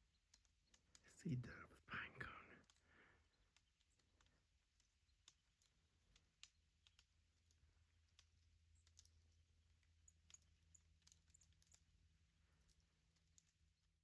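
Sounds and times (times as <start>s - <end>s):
faint sharp clicks: 0.0s - 14.0s.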